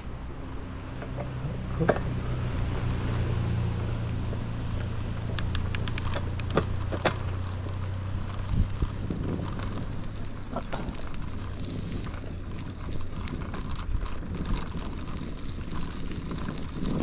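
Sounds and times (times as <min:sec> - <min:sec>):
bicycle in motion hum: 0:00.0 - 0:17.0
bicycle rattling over bumps: 0:00.0 - 0:17.0.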